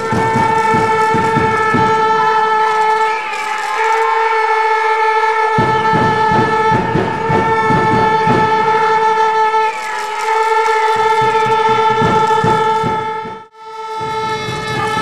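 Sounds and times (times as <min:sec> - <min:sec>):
low thumps: 0:00.0 - 0:03.0, 0:05.4 - 0:15.0
loud steady horn tone: 0:00.0 - 0:15.0.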